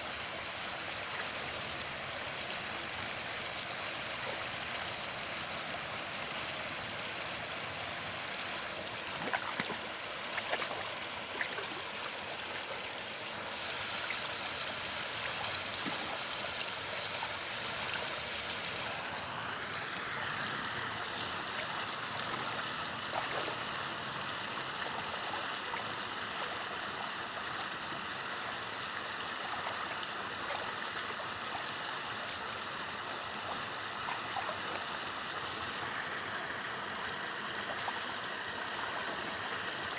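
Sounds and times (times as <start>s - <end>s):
flowing water rushing: 0.0s - 39.9s
water splashes: 0.2s - 39.9s.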